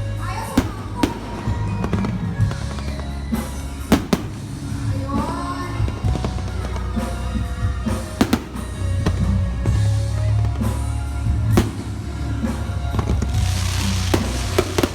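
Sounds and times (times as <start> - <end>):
fireworks bangs: 0.2 - 14.9
hissing crackle: 0.4 - 9.8, 11.5 - 14.9
music with heavy bass beat: 0.6 - 14.9.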